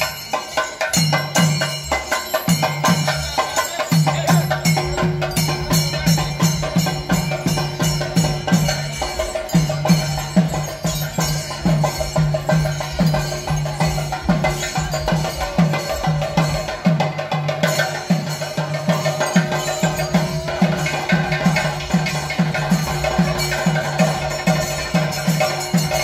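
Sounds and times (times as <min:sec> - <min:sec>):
fast drumming: 0:00.0 - 0:26.0.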